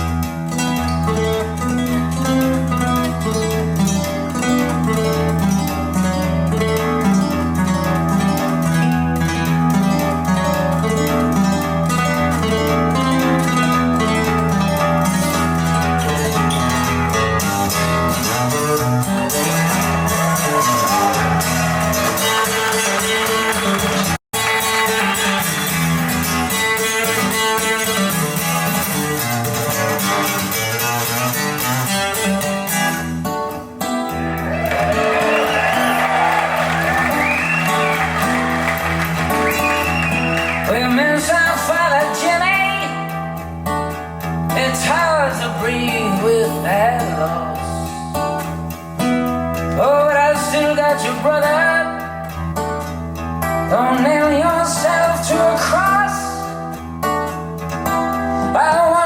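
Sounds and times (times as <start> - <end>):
pop song with guitar and strings: 0.0 - 59.0.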